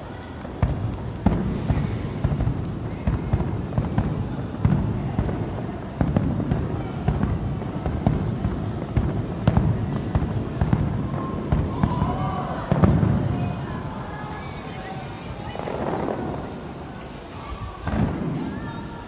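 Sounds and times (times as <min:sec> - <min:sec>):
fireworks bangs: 0:00.4 - 0:19.0.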